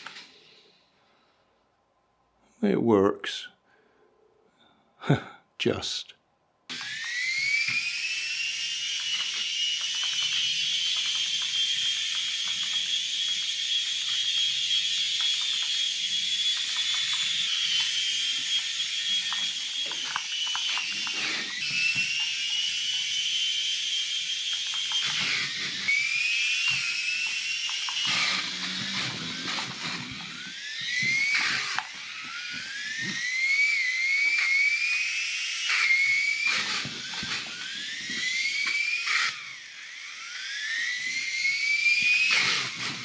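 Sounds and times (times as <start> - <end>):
toy motor whining: 6.7 - 43.0.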